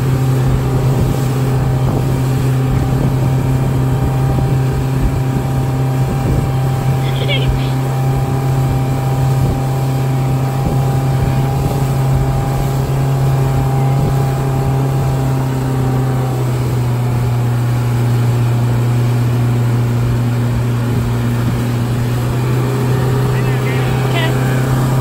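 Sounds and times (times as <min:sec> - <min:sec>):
outboard motor droning: 0:00.0 - 0:25.0
rushing water: 0:00.0 - 0:25.0
wind: 0:00.0 - 0:25.0.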